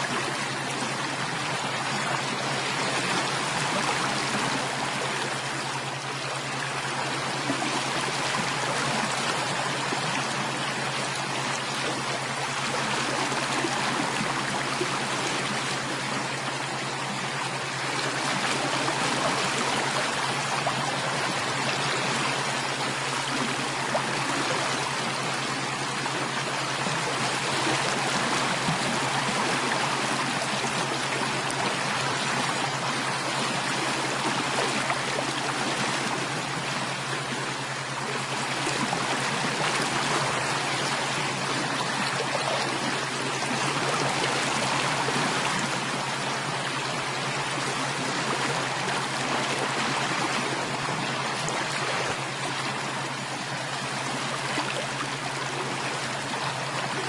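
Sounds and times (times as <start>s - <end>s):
low steady hum: 0.0s - 57.0s
stream flowing: 0.0s - 57.0s.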